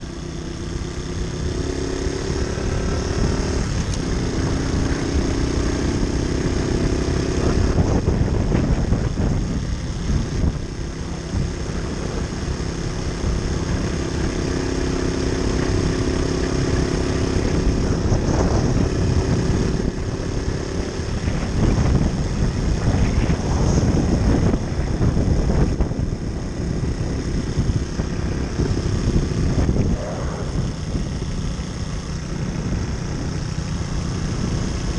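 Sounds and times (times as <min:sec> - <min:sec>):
constant rushing noise: 0:00.0 - 0:34.9
moped engine running: 0:00.0 - 0:34.9.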